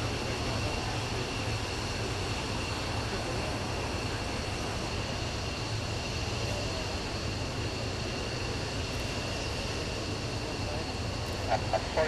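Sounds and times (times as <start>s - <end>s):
high turbine whine: 0.0s - 12.0s
low propeller drone: 0.0s - 12.0s.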